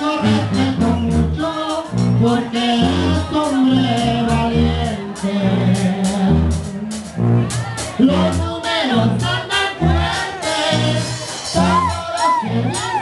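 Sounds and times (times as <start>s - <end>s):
person singing: 0.0s - 7.1s, 8.0s - 13.0s
brass playing: 0.0s - 13.0s
tuba bass line: 0.0s - 13.0s.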